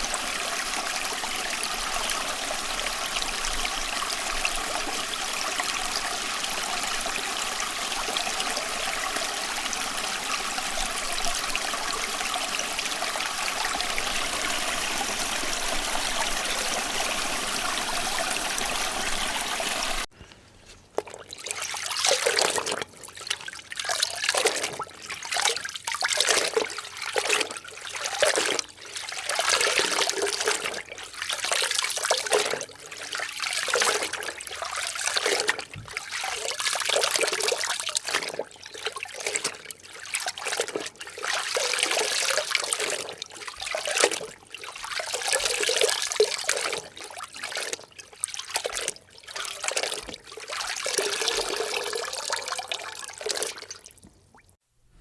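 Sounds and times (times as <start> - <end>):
water sloshing and splashing: 0.0 - 54.6.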